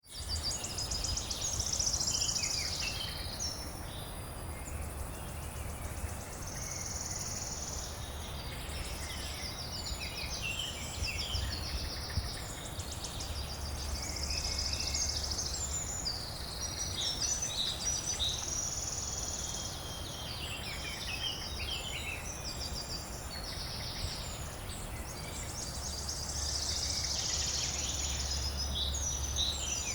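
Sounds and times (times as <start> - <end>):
crickets and insects chirping: 0.1 - 29.9.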